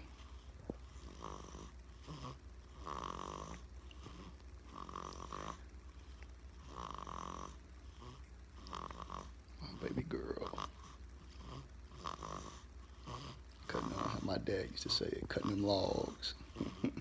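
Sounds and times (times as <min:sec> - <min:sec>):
baby snoring: 0:00.8 - 0:05.6, 0:06.6 - 0:17.0.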